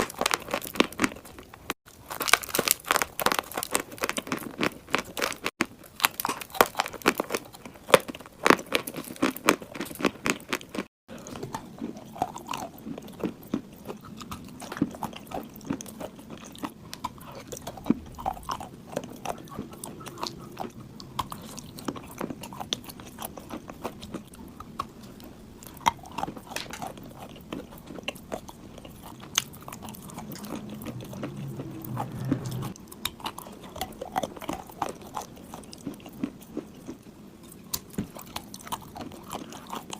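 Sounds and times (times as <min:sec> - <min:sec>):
chewing crunchy clay: 0:00.0 - 0:39.9.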